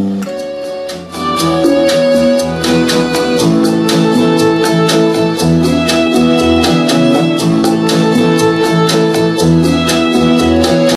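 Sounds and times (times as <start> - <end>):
guitar: 0.0 - 10.9
steady beat: 0.0 - 10.9
fiddle: 0.3 - 10.9.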